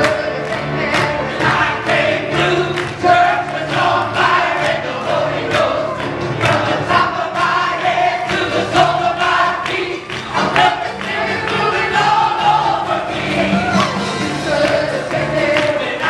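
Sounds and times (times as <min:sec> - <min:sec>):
band playing a steady beat: 0:00.0 - 0:16.0
voices singing together: 0:00.0 - 0:16.0.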